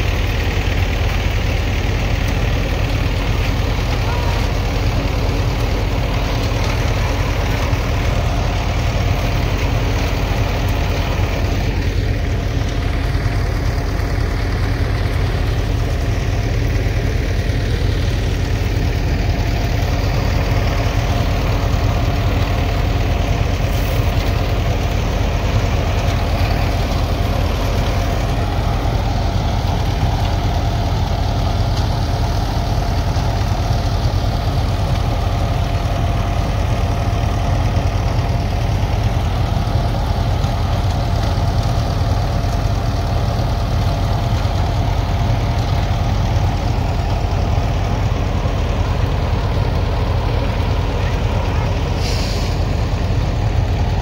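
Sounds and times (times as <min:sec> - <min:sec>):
threshing machine engine drone: 0:00.0 - 0:54.0.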